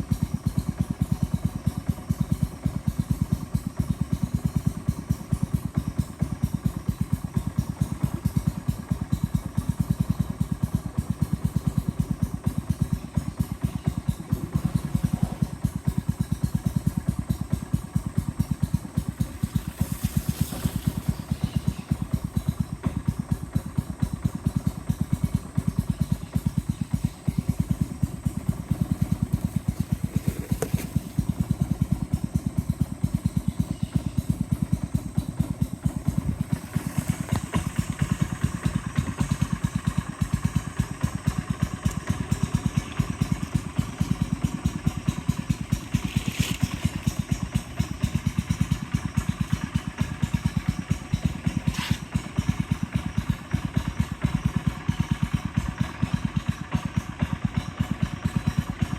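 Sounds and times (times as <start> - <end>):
boat motor pulsing: 7.6 - 55.7.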